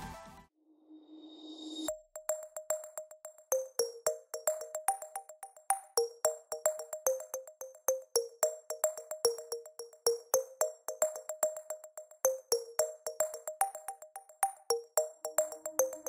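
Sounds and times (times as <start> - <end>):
light clicking percussion: 2.3 - 16.0.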